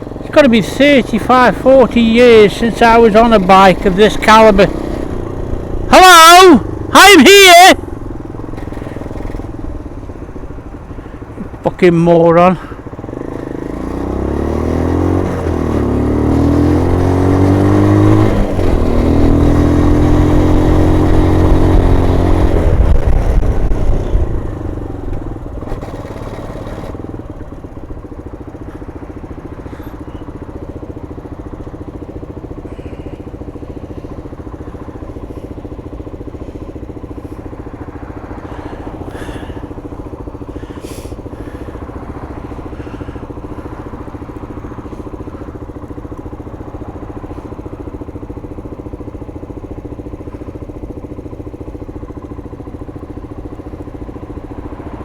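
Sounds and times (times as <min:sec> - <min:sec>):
motorcycle engine accelerating: 0:00.0 - 0:55.0
motorcycle engine idling: 0:00.0 - 0:55.0.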